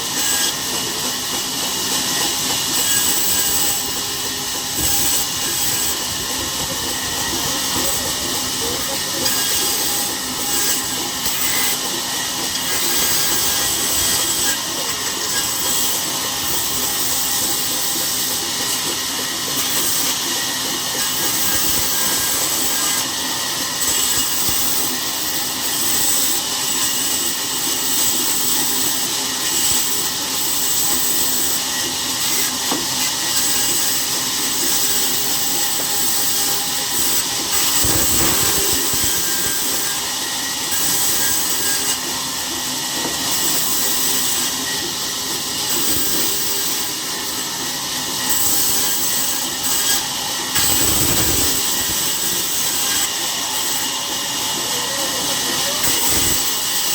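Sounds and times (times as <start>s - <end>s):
loud hissing machine noise: 0.0s - 56.9s.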